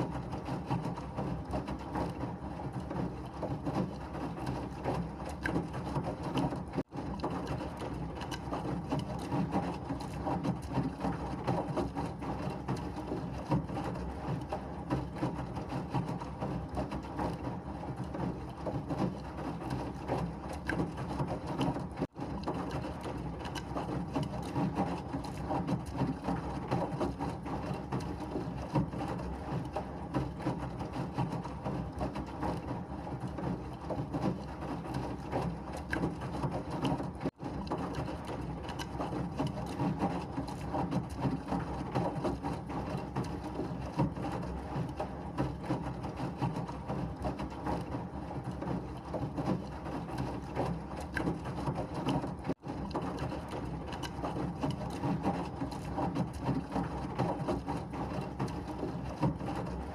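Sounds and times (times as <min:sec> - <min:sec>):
washing machine whirring: 0:00.0 - 0:59.9.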